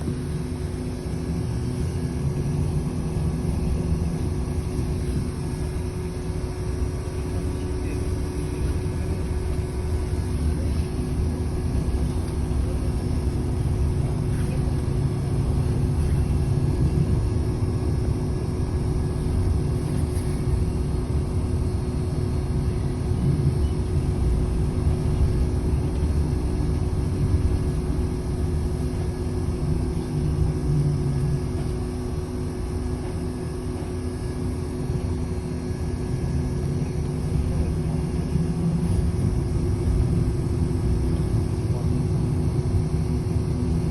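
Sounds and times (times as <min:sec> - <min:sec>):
bus engine and road rumble: 0:00.0 - 0:43.9.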